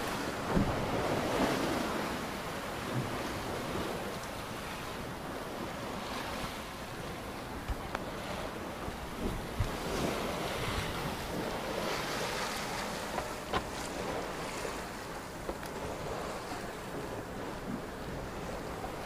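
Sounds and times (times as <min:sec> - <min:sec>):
waves washing against hull: 0:00.0 - 0:19.0
wind buffeting microphone: 0:00.0 - 0:19.0.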